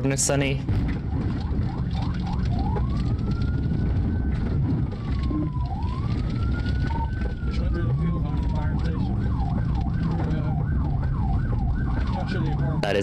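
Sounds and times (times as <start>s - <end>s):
engine and road rumble: 0.0s - 13.0s
police siren wailing: 0.0s - 13.0s.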